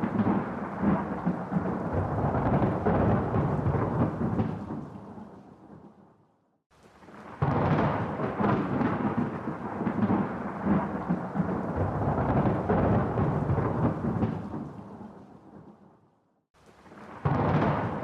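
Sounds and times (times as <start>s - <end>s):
thunderclap rumbling: 0.0s - 5.9s, 7.2s - 15.8s, 16.8s - 18.0s.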